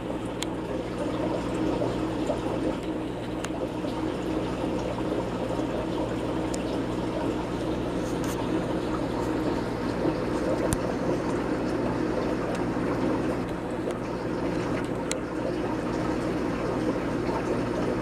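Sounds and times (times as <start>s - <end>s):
low pump hum: 0.0s - 18.0s
water washing in filter: 0.0s - 18.0s.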